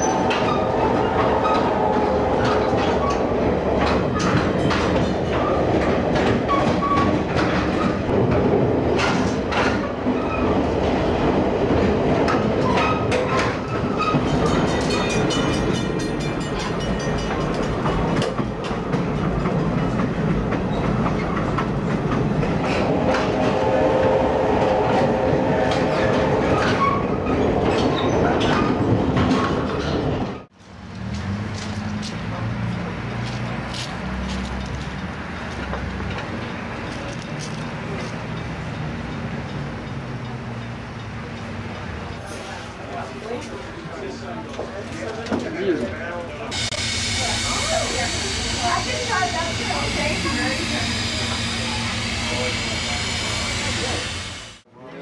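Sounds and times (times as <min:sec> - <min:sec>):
train wheels rumbling on rail: 0:00.0 - 0:54.7.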